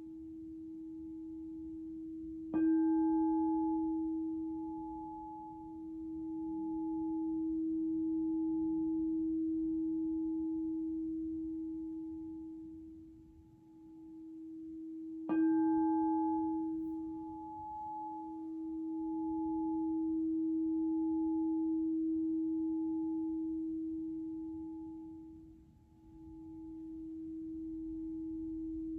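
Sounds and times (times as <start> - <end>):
singing bowl tone: 0.0 - 28.9.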